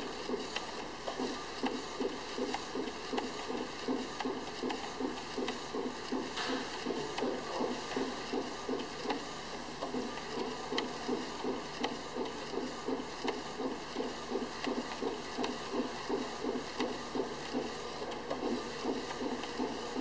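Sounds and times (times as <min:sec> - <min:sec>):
steady printer hum: 0:00.0 - 0:20.0.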